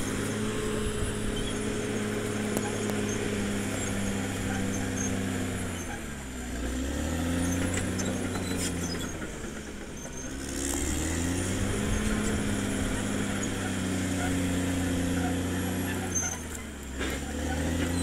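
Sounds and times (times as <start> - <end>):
bulldozer diesel engine working: 0.0 - 18.0.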